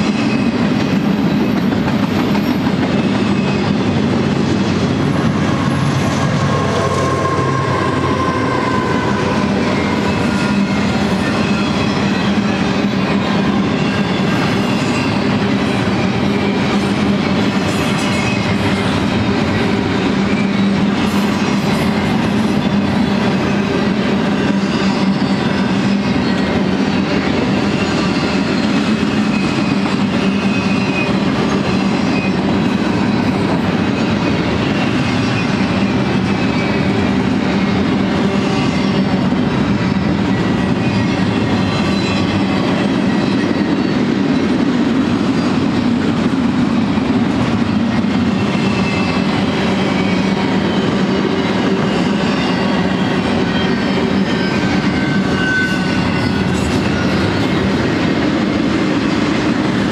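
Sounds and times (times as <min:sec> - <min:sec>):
steel wheels rolling on rail: 0:00.0 - 0:59.9.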